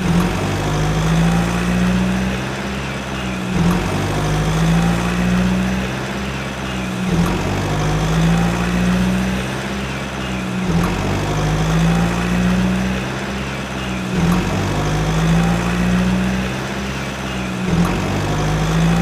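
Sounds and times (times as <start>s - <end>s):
toy tractor engine hum: 0.0s - 19.0s.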